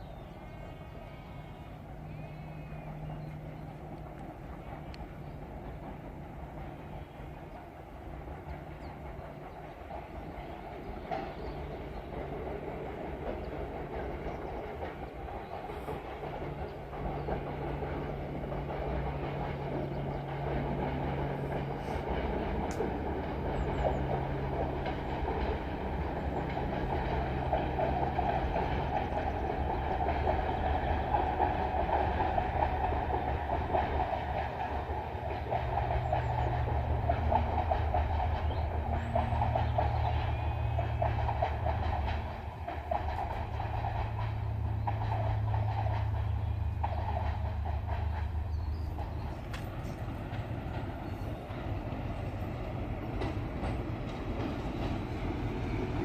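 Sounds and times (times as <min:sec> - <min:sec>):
diesel locomotive engine drone: 0:00.0 - 0:56.0
wheels clicking over rail joints: 0:03.0 - 0:56.0.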